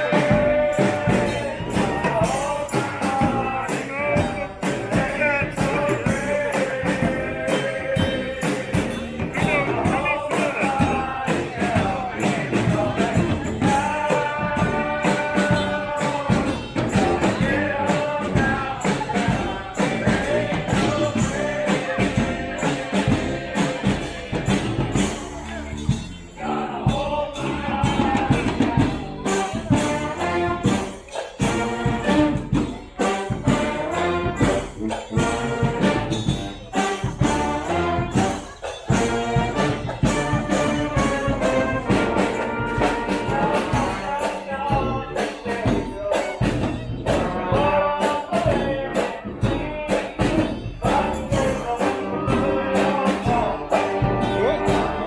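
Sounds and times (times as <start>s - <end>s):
brass horns playing melody: 0.0s - 55.0s
drums and percussion: 0.0s - 55.0s.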